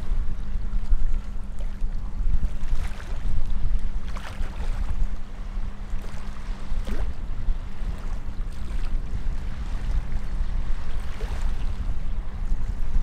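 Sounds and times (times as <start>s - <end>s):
boat engine droning: 0.0s - 13.0s
water rushing past hull: 0.0s - 13.0s
wind on microphone: 0.0s - 13.0s.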